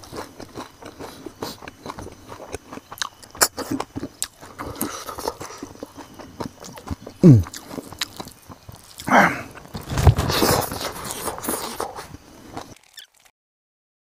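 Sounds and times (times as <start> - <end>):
chewing and crunching: 0.0 - 13.3.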